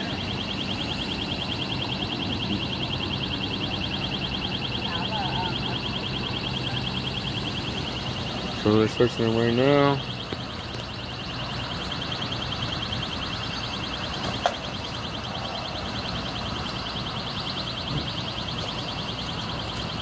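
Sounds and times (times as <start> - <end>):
burglar alarm pulsing tone: 0.0 - 20.0.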